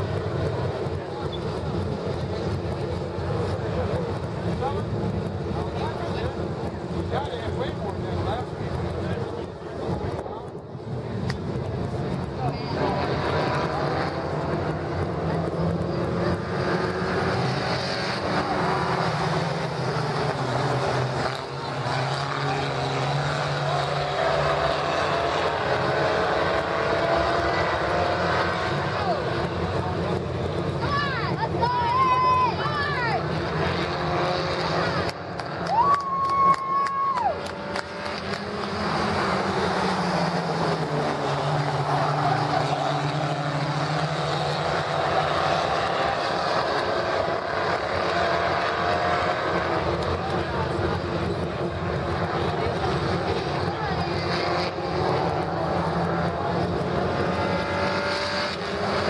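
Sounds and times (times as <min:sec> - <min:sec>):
race car engines: 0:00.0 - 0:59.0.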